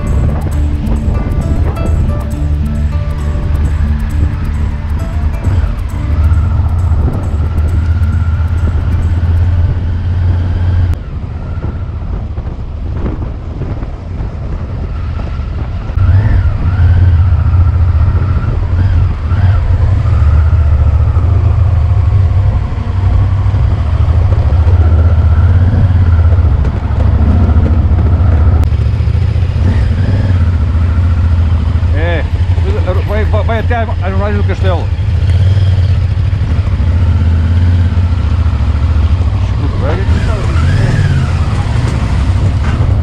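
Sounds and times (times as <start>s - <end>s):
motorcycle engine running: 0.0s - 11.0s, 16.0s - 43.0s
wind and road noise: 0.0s - 43.0s.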